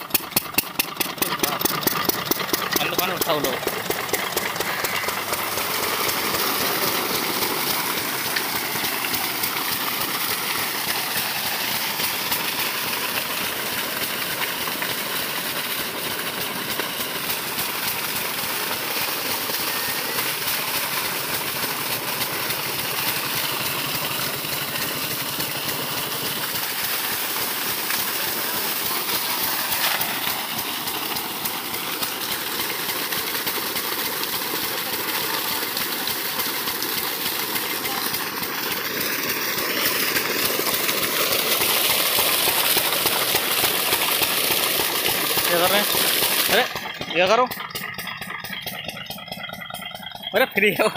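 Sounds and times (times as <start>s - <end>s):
diesel pump engine running: 0.0s - 50.9s
water gushing onto ground: 0.0s - 50.9s.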